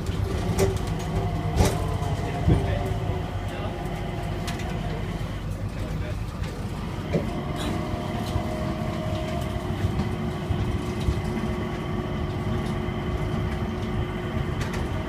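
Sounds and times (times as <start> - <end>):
train cabin rumble: 0.0 - 15.0.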